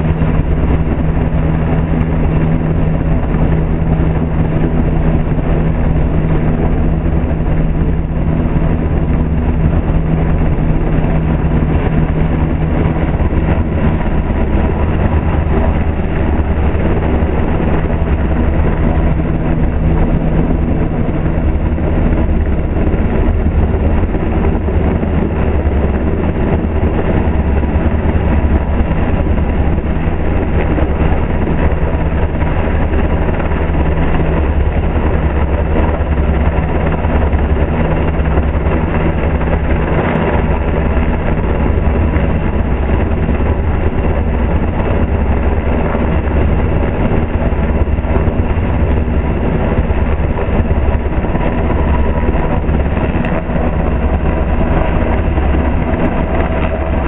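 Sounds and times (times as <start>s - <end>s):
helicopter rotor and turbines: 0.0s - 57.0s
rotor downwash buffeting microphone: 0.0s - 57.0s.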